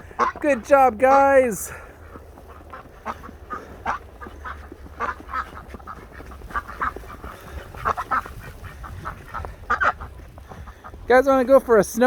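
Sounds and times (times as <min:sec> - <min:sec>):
ducks quacking: 0:00.0 - 0:11.4.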